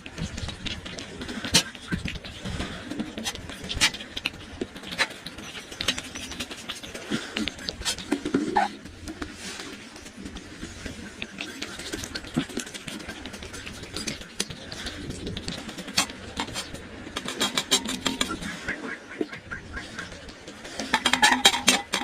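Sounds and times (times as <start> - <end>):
cat eating with crunching clicks: 0.0 - 18.4.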